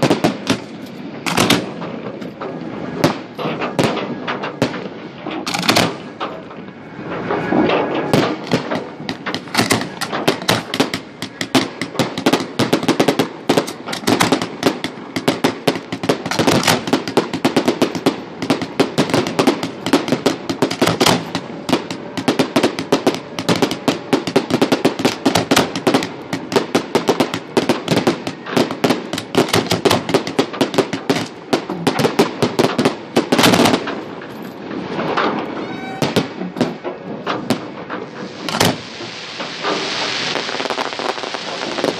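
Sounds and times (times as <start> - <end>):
fireworks crackling: 0.0 - 41.9
loud firework bang: 1.3 - 34.0, 34.8 - 41.9.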